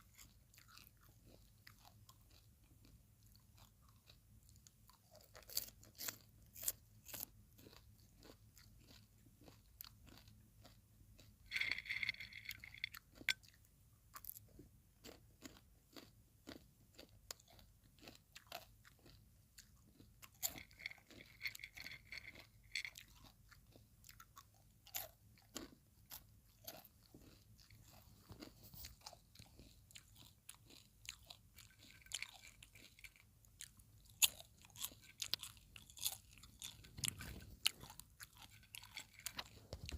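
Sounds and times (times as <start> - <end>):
popcorn being chewed: 0.0 - 39.9.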